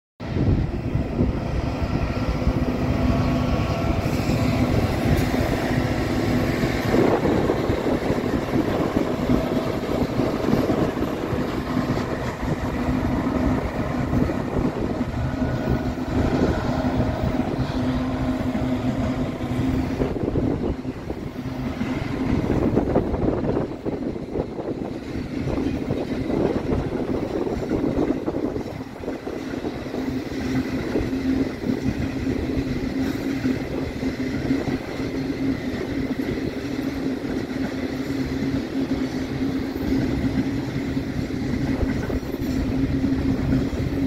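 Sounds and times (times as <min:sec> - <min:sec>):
diesel locomotive engine drone: 0:00.2 - 0:44.0
steel wheels clattering on rails: 0:02.5 - 0:44.0.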